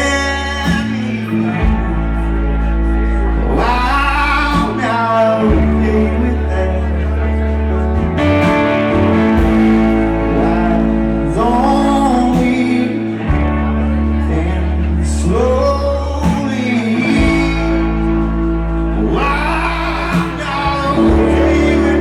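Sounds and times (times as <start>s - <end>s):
live rock band playing: 0.0s - 22.0s
person singing: 0.0s - 22.0s.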